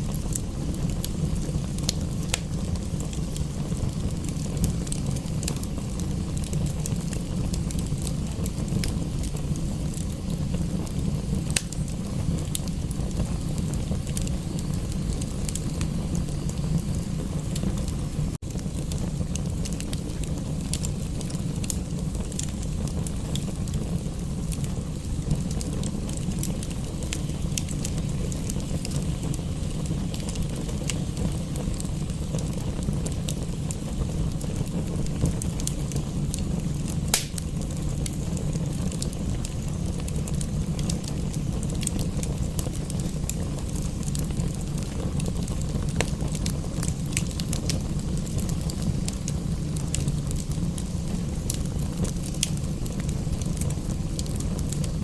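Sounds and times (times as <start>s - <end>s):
fireplace fire crackling: 0.0s - 55.0s
rain: 0.0s - 55.0s.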